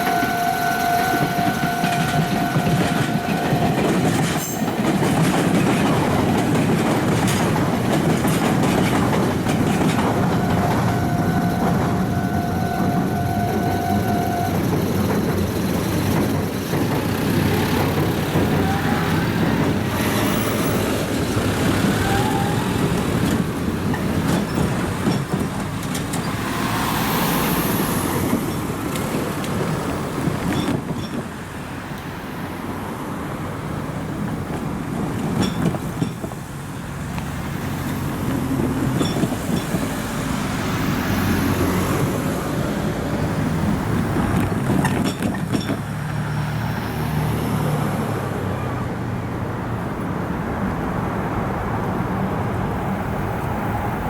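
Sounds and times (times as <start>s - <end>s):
electric trains rumbling past: 0.0s - 54.0s.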